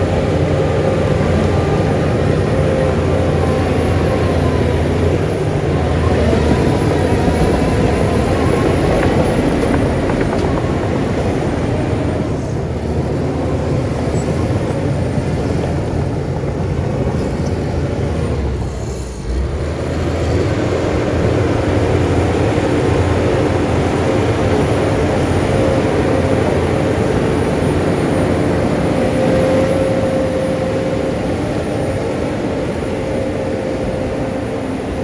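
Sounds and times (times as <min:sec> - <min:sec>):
heavy diesel engine under load: 0:00.0 - 0:35.0.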